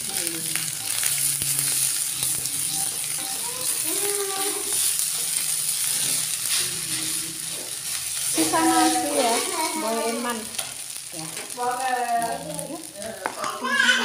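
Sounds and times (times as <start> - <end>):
rice sizzling in a wok: 0.0 - 14.0
spatula stirring: 0.0 - 14.0.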